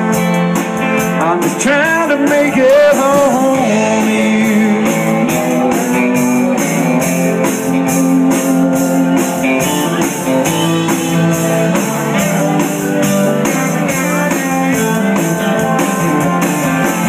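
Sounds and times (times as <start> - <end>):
drum kit steady beat: 0.0 - 17.0
guitar lines: 0.0 - 17.0.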